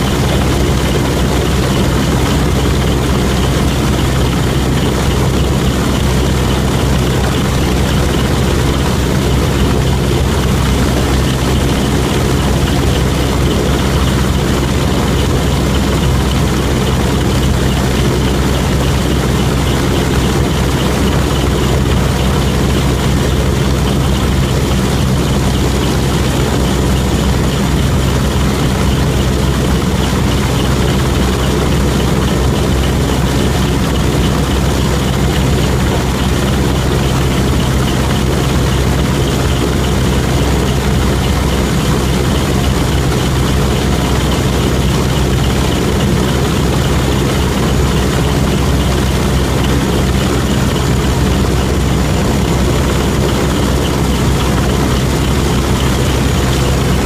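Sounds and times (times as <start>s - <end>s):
aircraft engines droning: 0.0s - 57.0s.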